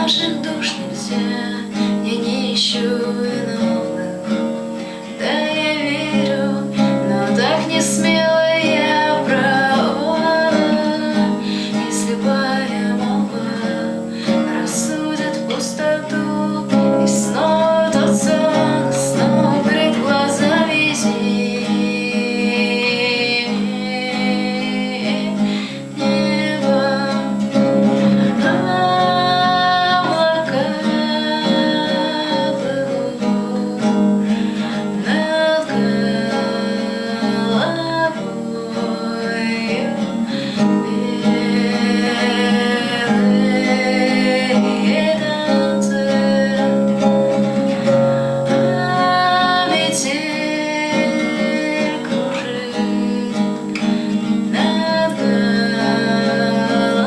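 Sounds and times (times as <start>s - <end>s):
acoustic guitar strummed and picked: 0.0s - 57.0s
woman singing: 0.0s - 57.0s.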